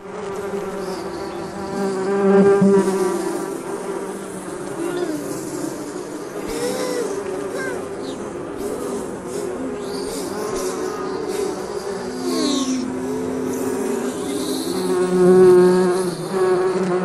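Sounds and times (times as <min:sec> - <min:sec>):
buzzing drone: 0:00.0 - 0:17.0.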